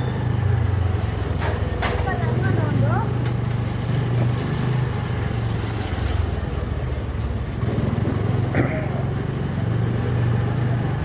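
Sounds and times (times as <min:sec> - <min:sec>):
traffic noise: 0:00.0 - 0:11.0
vehicle engine humming: 0:00.0 - 0:11.0.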